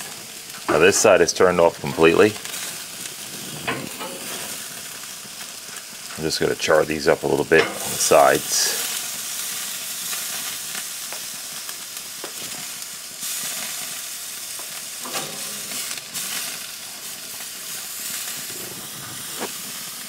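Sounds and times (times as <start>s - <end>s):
meat sizzling on a grill: 0.0s - 20.0s.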